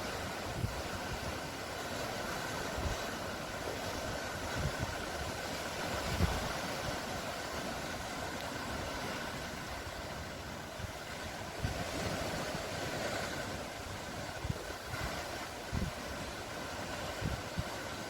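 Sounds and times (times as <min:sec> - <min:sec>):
sea wash: 0:00.0 - 0:18.0
wind buffeting microphone: 0:00.0 - 0:18.0.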